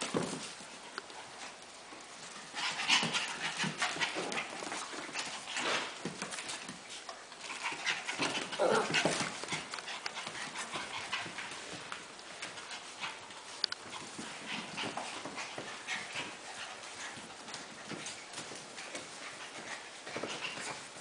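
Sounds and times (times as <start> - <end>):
puppies panting: 0.0 - 21.0.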